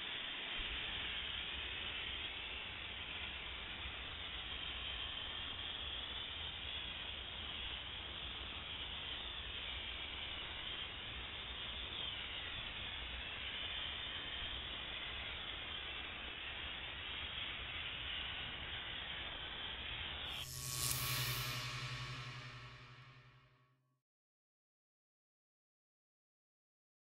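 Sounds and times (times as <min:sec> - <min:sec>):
steam jetting hiss: 0:00.0 - 0:23.4.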